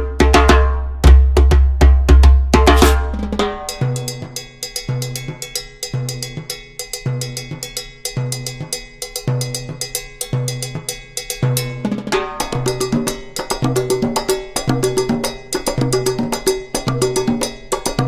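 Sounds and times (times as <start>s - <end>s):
percussion-heavy drum beat music: 0.0s - 18.0s.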